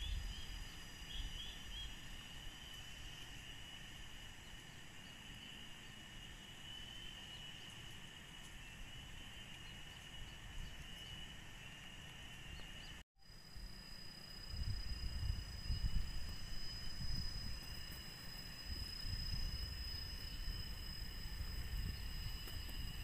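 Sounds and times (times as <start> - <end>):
higher insect tone: 0.0 - 23.0
insects droning: 0.0 - 23.0.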